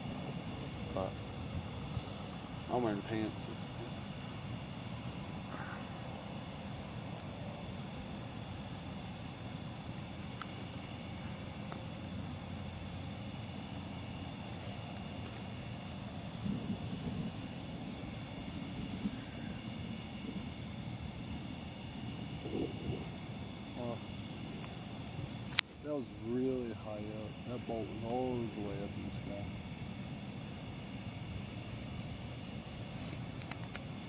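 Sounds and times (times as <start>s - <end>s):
crickets trilling: 0.0s - 34.0s
rapid pulsing insect trill: 0.0s - 34.0s.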